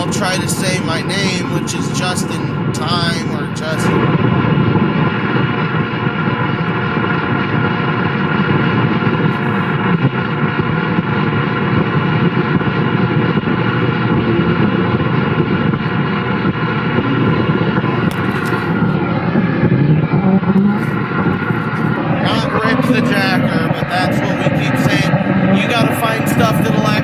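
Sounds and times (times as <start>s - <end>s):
radio static hiss: 0.0s - 10.9s, 13.6s - 27.0s
faint whine tones: 0.0s - 27.0s.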